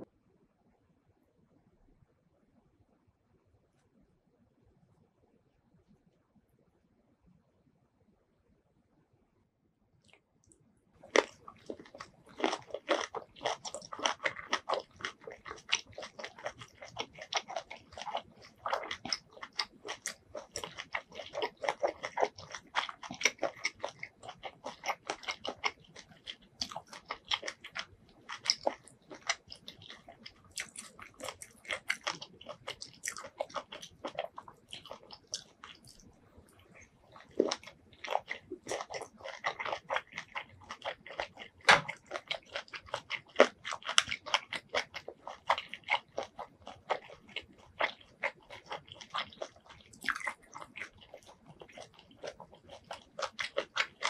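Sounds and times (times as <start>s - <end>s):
wet crunchy chewing: 10.0s - 54.0s.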